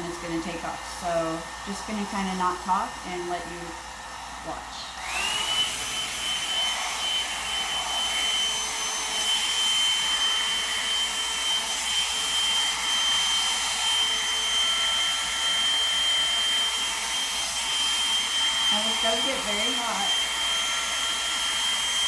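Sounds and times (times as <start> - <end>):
hot air brush blowing and whining: 0.0 - 22.0.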